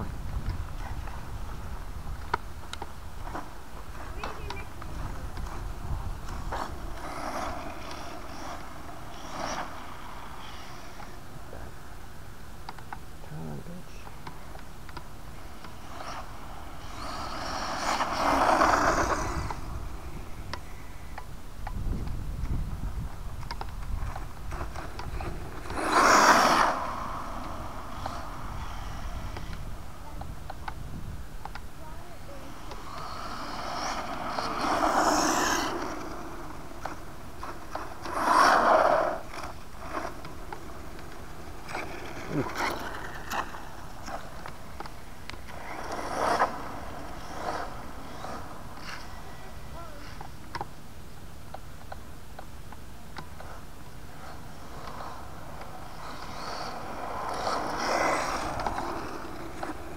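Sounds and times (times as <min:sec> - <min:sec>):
tyre noise on asphalt: 0:00.0 - 0:59.9.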